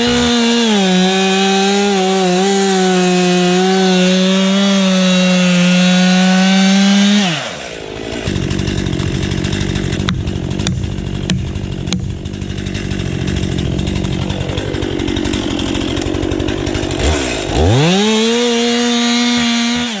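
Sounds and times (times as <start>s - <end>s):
chainsaw cutting a log: 0.0s - 20.0s.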